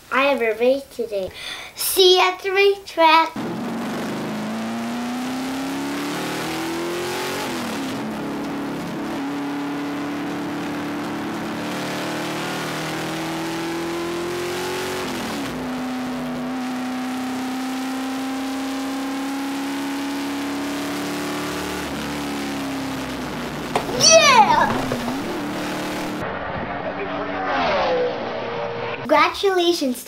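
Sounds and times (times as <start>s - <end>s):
race car engine: 3.4s - 29.1s.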